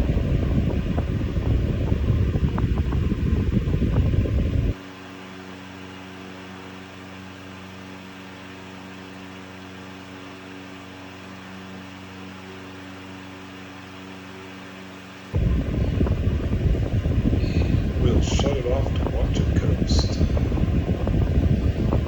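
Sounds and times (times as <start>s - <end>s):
fan breeze buffeting microphone: 0.0s - 22.0s
fan motor hum with whirr: 0.0s - 22.0s.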